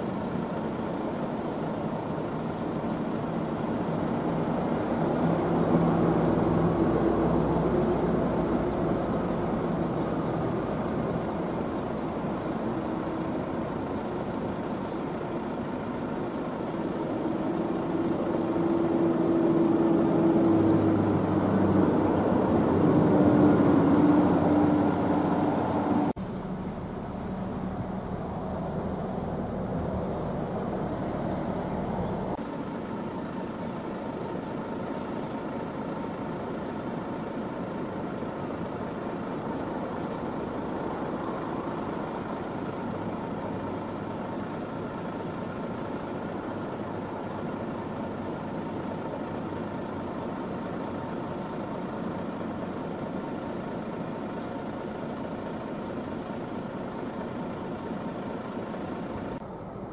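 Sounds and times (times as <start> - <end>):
truck engines idling: 0.0 - 59.9.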